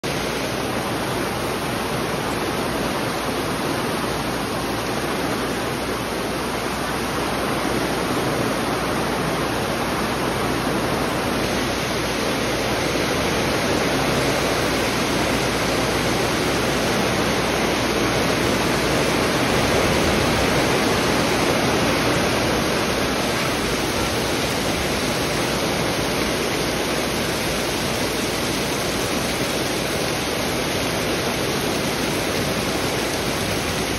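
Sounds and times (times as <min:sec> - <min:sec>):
heavy rain on tent and grass: 0:00.0 - 0:33.9
water streaming off tent: 0:00.0 - 0:33.9.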